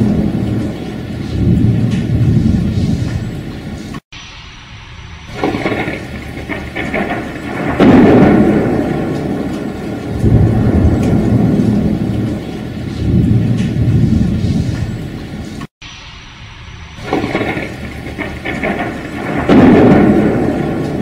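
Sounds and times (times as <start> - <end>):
loud thunderclap: 0.0 - 21.0
rain: 0.0 - 21.0
rolling thunder: 0.0 - 21.0.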